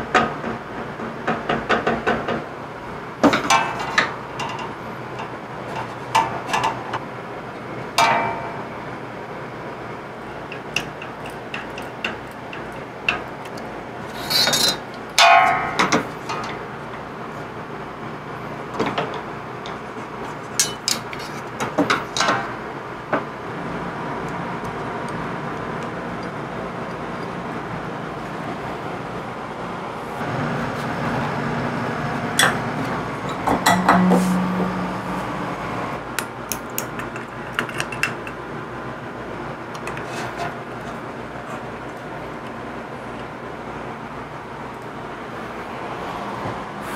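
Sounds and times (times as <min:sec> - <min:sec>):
steady background hum: 0:00.0 - 0:46.9.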